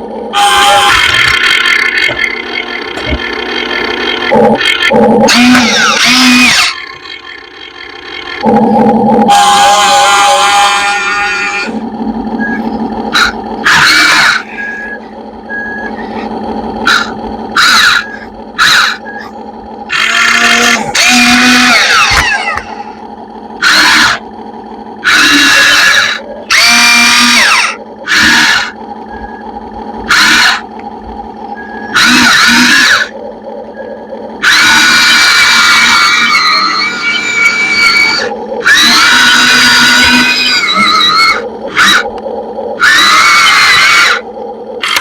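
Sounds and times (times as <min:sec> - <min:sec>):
excavator pump motor hum: 0:00.0 - 0:45.0
harsh squealing bursts: 0:00.3 - 0:45.0.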